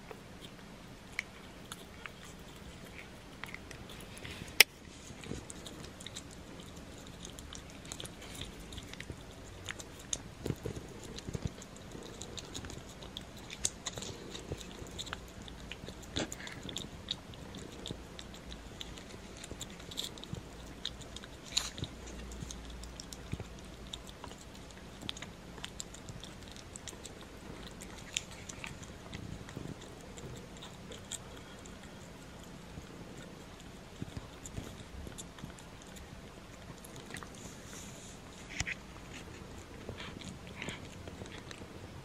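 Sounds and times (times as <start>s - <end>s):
cat licking and smacking: 0.1s - 42.0s.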